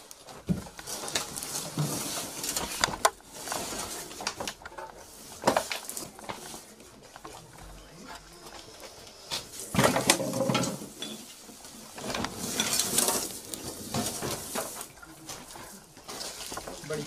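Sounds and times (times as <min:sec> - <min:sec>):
household clutter rattling and scraping: 0:00.0 - 0:17.0.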